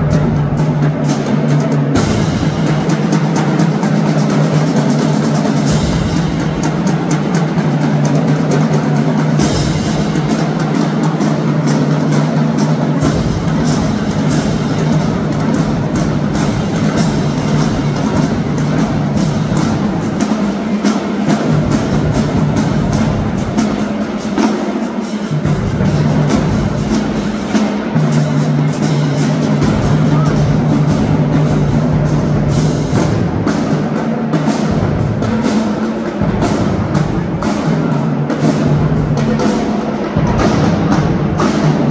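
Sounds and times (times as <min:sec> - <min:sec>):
bass drums: 0:00.0 - 0:24.5, 0:25.2 - 0:41.9
snare drums: 0:00.0 - 0:41.9
tenor drums: 0:00.0 - 0:41.9.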